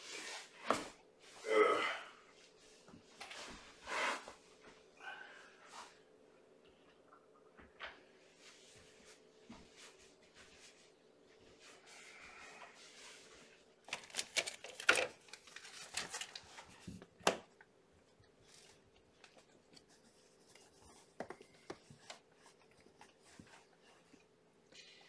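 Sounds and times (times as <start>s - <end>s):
faint steady low hum: 0.1s - 25.0s.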